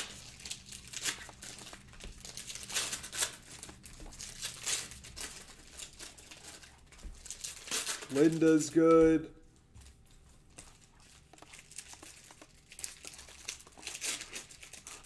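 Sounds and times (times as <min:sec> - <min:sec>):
plastic wrapper and paper crinkling: 0:00.0 - 0:15.0.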